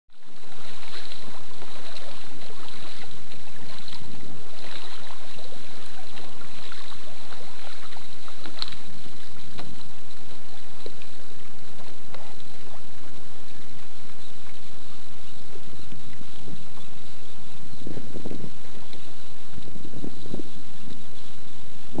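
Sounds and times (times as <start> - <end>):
water lapping against kayak hull: 0.1 - 22.0
wind buffeting microphone: 0.1 - 22.0.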